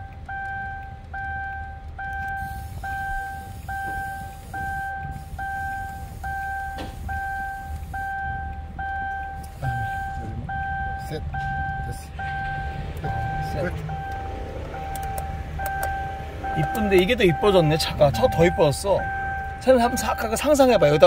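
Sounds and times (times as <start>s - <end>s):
car warning chime: 0.0s - 21.0s
low steady rumble: 0.0s - 21.0s.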